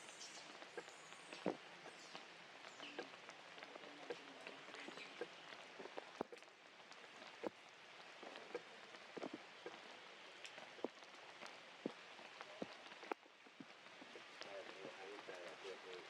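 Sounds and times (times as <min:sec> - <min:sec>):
rain falling steadily: 0:00.0 - 0:16.0
drops ticking on a surface: 0:00.2 - 0:16.0.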